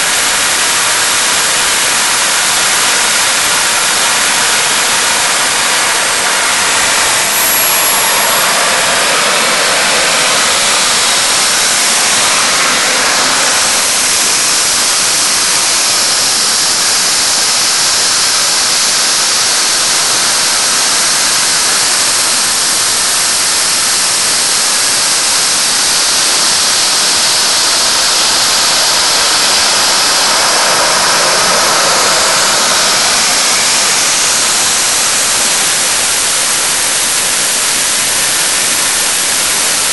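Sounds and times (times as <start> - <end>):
faint turbine whine: 0.0 - 39.9
jet engine rushing: 0.0 - 39.9.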